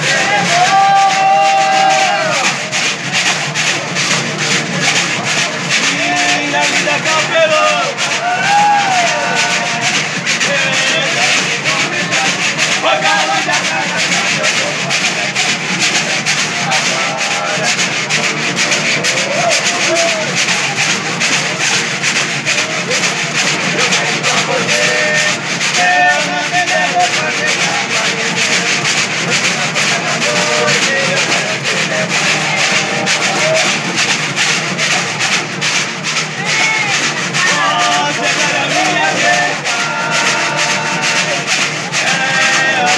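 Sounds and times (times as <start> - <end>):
men singing: 0.0 - 42.9
strummed string instruments: 0.0 - 42.9.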